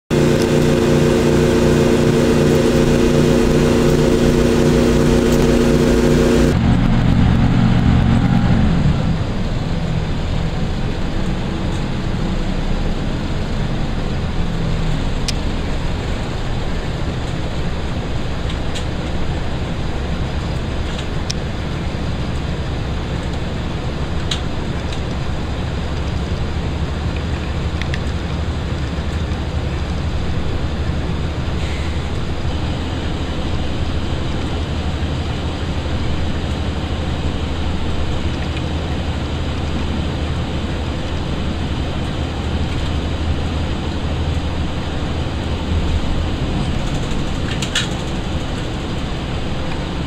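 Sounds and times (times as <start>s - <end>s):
diesel engine droning: 0.0s - 50.0s
wheel and rail rolling noise: 0.1s - 50.0s.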